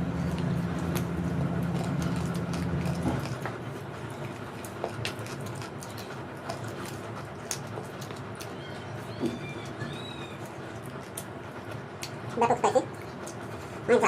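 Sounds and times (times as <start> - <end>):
chewing and handling food: 0.0 - 14.0
steady low hum: 0.0 - 14.0.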